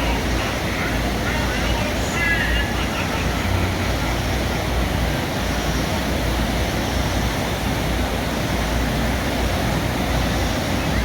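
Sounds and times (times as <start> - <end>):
outdoor rushing noise: 0.0 - 11.0.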